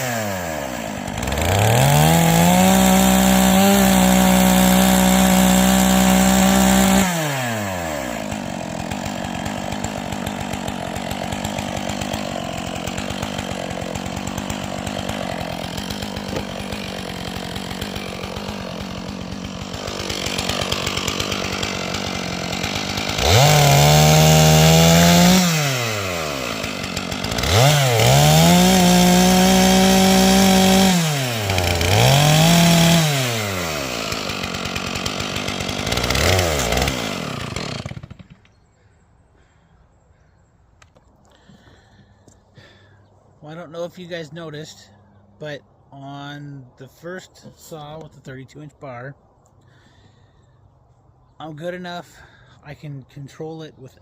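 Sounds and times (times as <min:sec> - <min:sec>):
chainsaw revving and idling: 0:00.0 - 0:39.6, 0:40.8 - 0:48.8.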